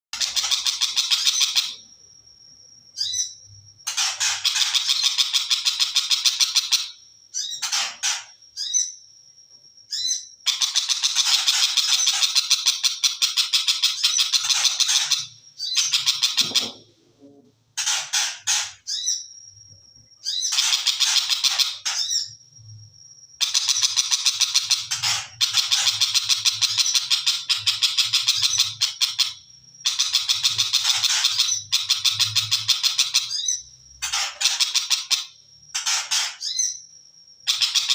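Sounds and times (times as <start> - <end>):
bird chattering song: 0.2 - 1.8, 3.0 - 9.0, 9.9 - 16.9, 17.8 - 19.4, 20.2 - 22.4, 23.4 - 37.9.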